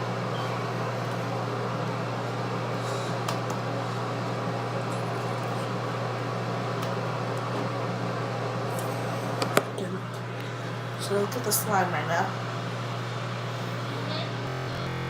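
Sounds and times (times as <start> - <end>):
machine hum with hiss: 0.0 - 11.5, 12.3 - 15.0.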